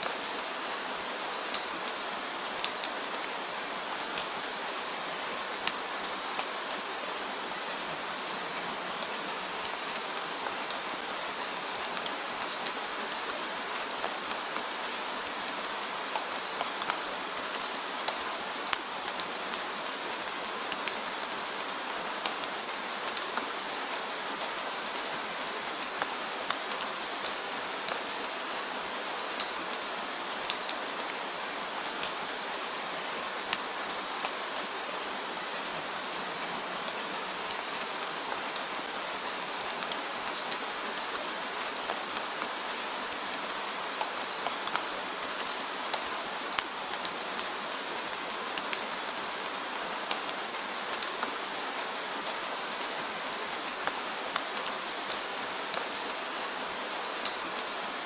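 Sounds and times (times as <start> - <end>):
rain hissing on a surface: 0.0 - 58.0.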